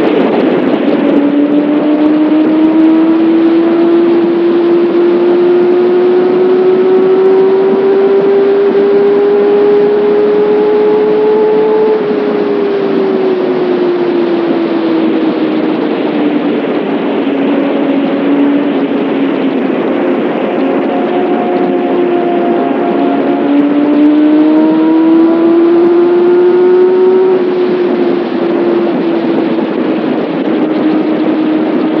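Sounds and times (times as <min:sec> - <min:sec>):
motorcycle engine and exhaust: 0:00.0 - 0:32.0.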